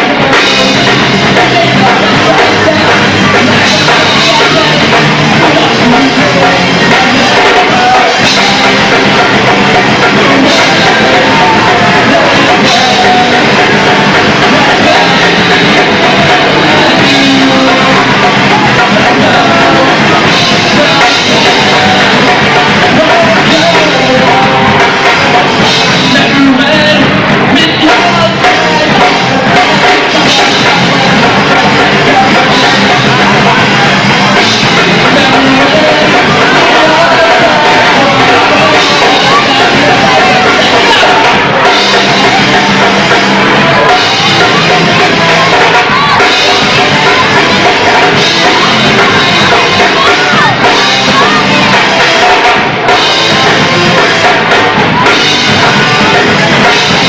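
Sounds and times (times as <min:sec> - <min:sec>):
bass guitar: 0:00.0 - 0:57.0
drum kit: 0:00.0 - 0:57.0
electric guitar: 0:00.0 - 0:57.0
person singing into a microphone: 0:00.0 - 0:57.0.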